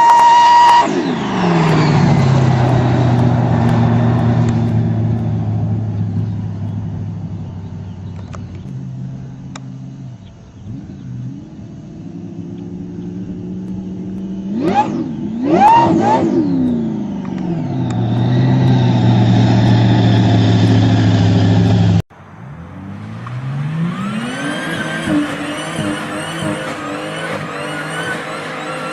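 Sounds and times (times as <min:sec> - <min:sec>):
car engine idling and revving: 0:00.0 - 0:28.9
engine revving up: 0:00.0 - 0:28.9
turbocharger whine: 0:00.0 - 0:28.9.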